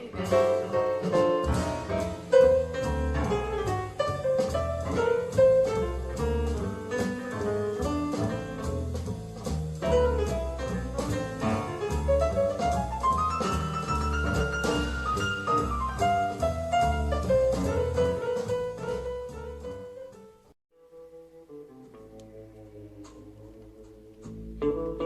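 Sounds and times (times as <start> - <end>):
double bass notes: 0.0 - 25.0
jazz through speakers: 0.0 - 25.0.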